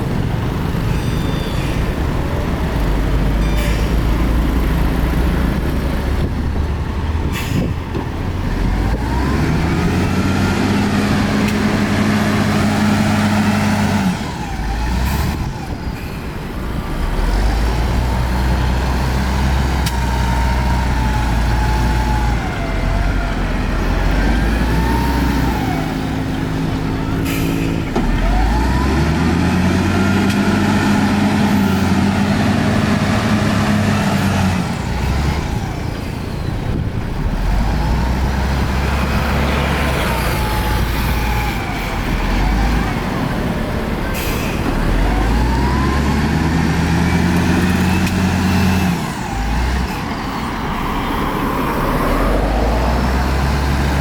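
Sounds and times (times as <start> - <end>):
diesel engine working under load: 0.0 - 54.0.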